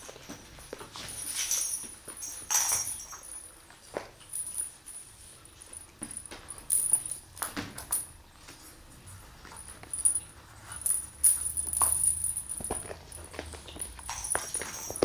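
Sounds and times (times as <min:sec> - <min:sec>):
kittens scampering on hard floor: 0:00.0 - 0:15.0.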